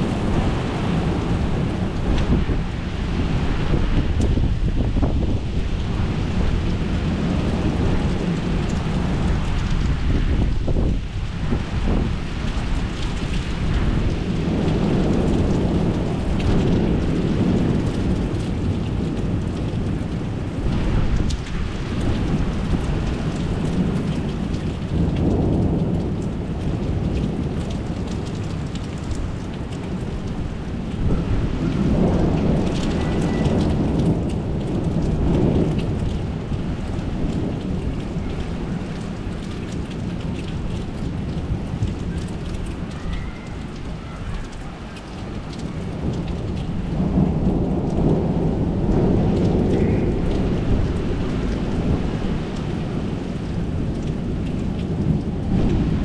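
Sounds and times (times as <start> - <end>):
heavy rain: 0.0 - 56.0
thunder rolling: 0.0 - 56.0.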